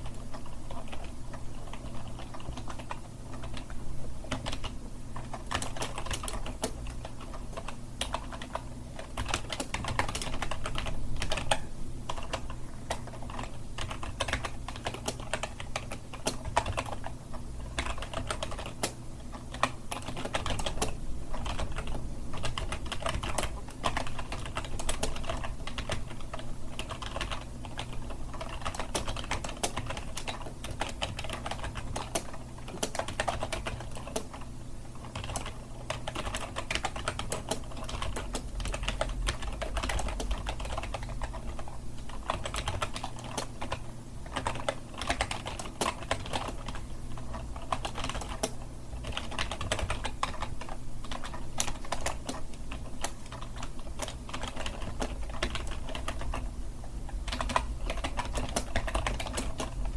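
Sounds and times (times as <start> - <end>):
typing on keyboard: 0.0 - 56.5, 57.1 - 59.9.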